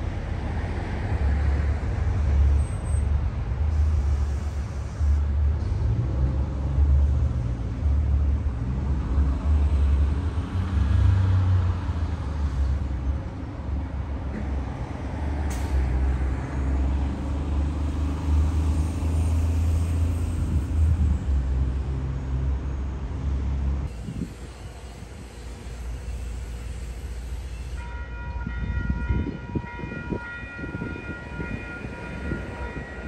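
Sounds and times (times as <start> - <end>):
cars passing: 0.0 - 24.7, 28.6 - 33.0
low traffic rumble: 0.0 - 27.7.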